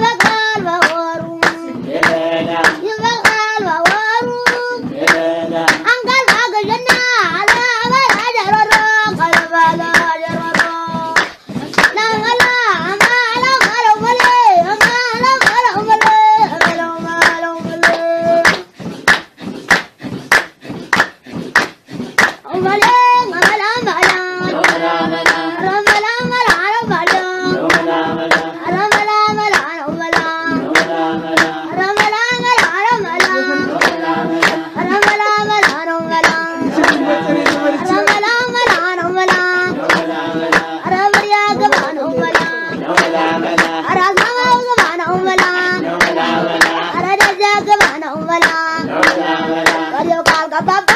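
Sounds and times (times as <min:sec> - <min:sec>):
group singing: 0:00.0 - 0:20.9, 0:21.9 - 0:50.9
brisk steady handclaps: 0:00.0 - 0:50.9.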